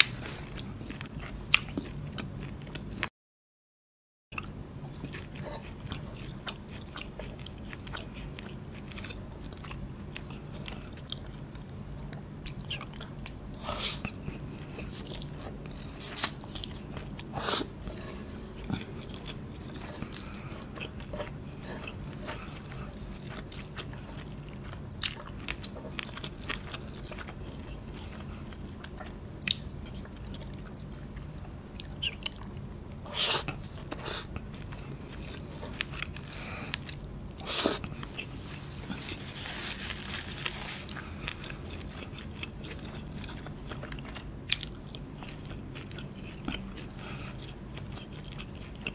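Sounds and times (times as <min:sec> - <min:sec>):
person chewing noodles: 0:00.0 - 0:03.1, 0:04.4 - 0:48.9
steady low hum: 0:04.4 - 0:48.9.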